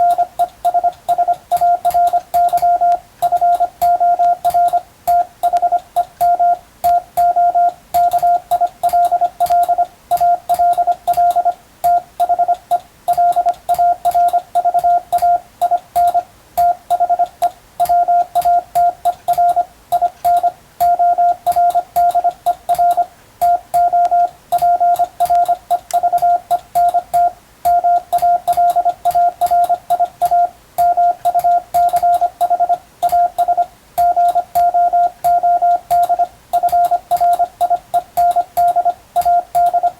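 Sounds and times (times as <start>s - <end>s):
morse code tone: 0.0s - 39.9s
sharp keying clicks: 0.0s - 39.9s.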